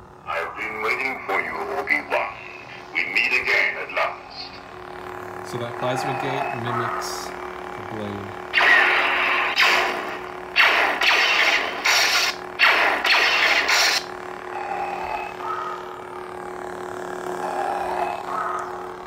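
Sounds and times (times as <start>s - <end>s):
lightsaber electric hum: 0.0s - 19.0s
lightsaber bursts: 0.3s - 18.4s.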